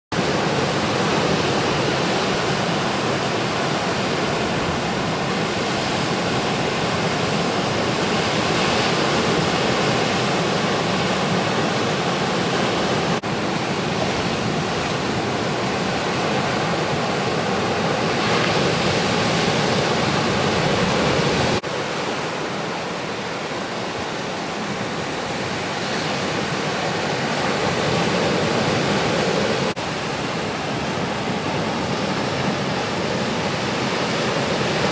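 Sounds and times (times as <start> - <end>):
ocean surf breaking: 0.2 - 34.9.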